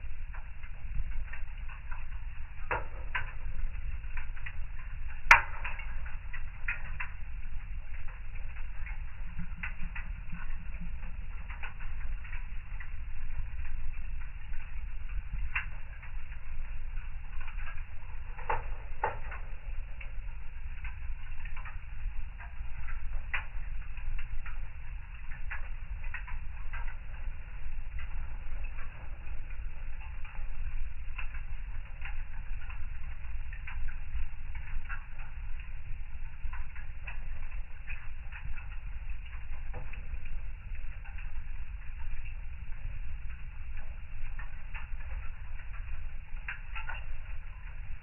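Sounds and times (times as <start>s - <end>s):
steady low rumble: 0.0s - 48.0s
wood fire crackling: 0.0s - 48.0s.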